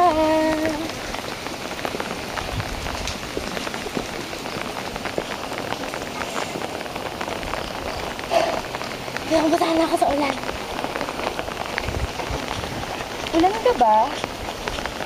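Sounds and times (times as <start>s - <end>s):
rain falling steadily: 0.0s - 15.0s
raindrop ticks: 0.0s - 15.0s.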